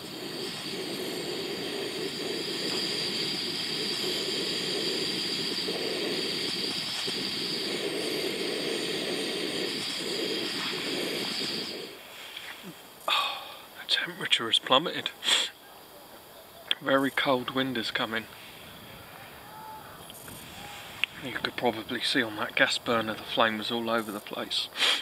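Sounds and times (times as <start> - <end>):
gas stove burner hissing roar: 0.0 - 13.8, 16.7 - 25.0
wind: 0.0 - 25.0.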